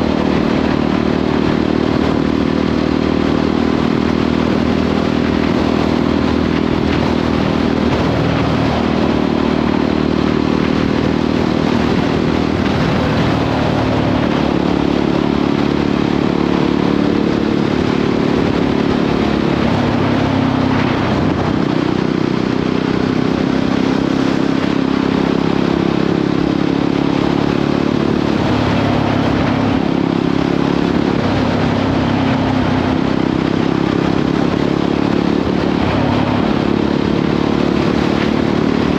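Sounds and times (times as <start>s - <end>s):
motorcycle engine running: 0.0s - 38.9s
road noise: 0.0s - 38.9s
wind noise: 0.0s - 38.9s.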